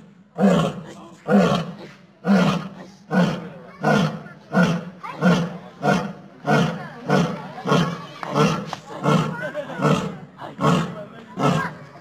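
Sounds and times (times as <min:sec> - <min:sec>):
young lion roaring: 0:00.4 - 0:11.8.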